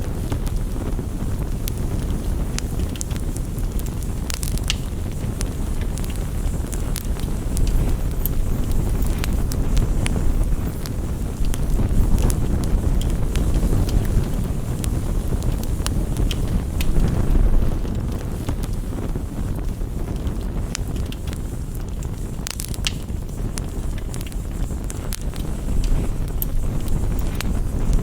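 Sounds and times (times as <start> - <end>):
fire crackling: 0.0 - 28.0
low rushing rain: 0.0 - 28.0.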